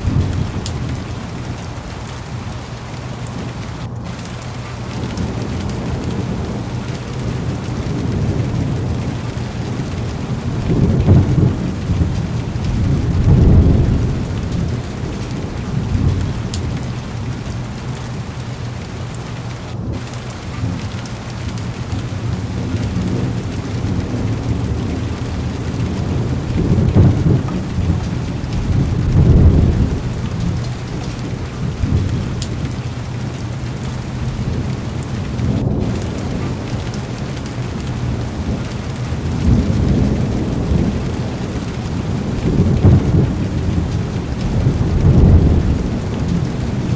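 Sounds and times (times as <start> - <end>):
heavy rain on a car: 0.0 - 46.9
thunder rumbling: 0.0 - 46.9.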